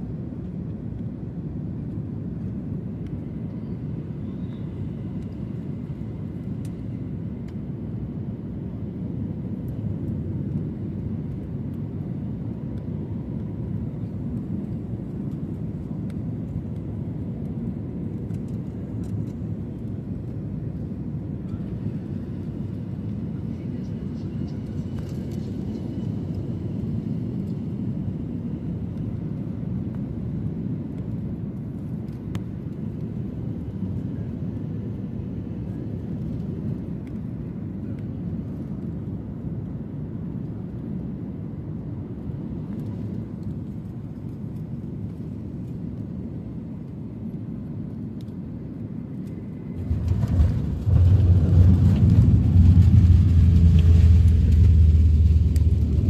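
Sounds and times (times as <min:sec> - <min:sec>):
airplane cabin rumble: 0:00.1 - 0:47.5, 0:49.2 - 0:56.0.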